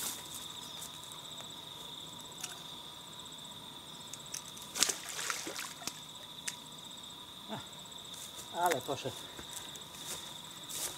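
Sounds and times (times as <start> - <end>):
crickets trilling: 0.0 - 10.9.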